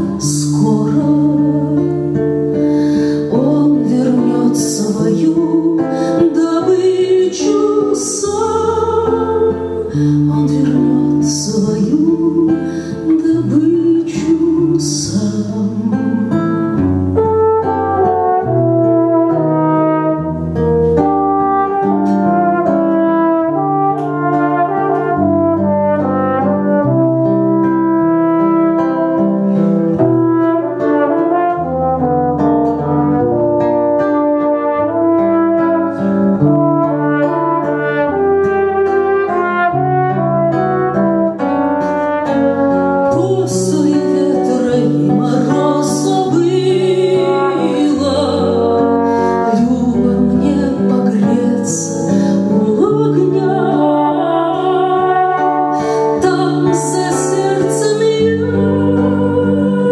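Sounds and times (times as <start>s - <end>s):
acoustic guitar accompaniment: 0.0s - 59.9s.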